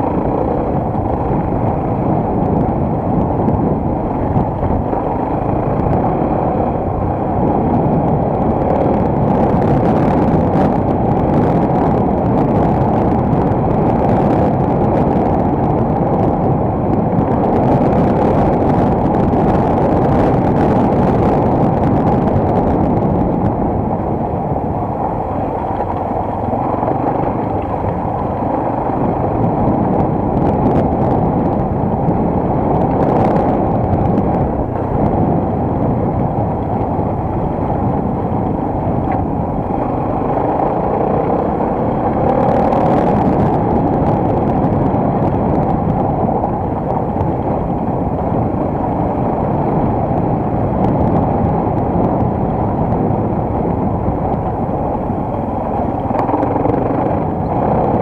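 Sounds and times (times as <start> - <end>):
motorcycle engine running: 0.0 - 58.0
wind on microphone: 0.0 - 58.0.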